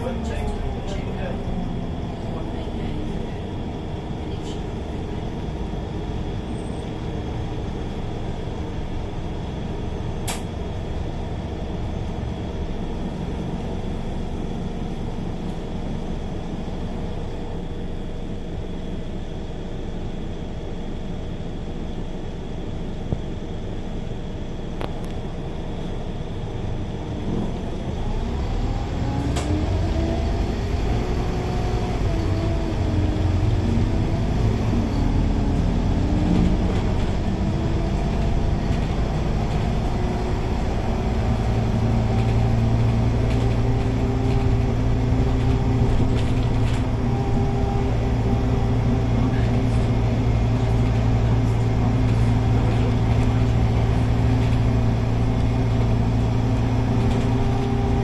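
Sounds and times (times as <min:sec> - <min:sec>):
bus engine accelerating: 0:00.0 - 0:58.0
bus engine idling: 0:00.0 - 0:58.0.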